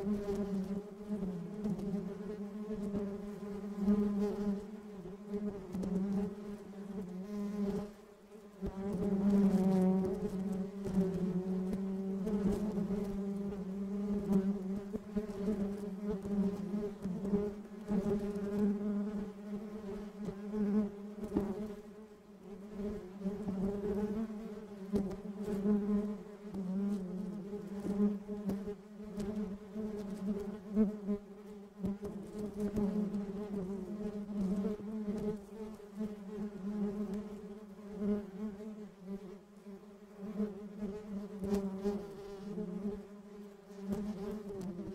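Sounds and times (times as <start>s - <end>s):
honeybee buzzing: 0.0s - 44.9s.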